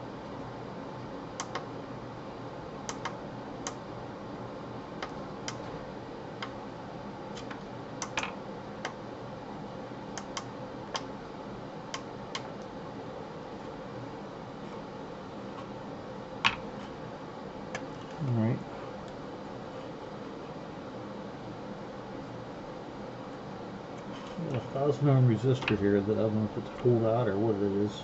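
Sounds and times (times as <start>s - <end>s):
steady background hiss: 0.0s - 28.0s.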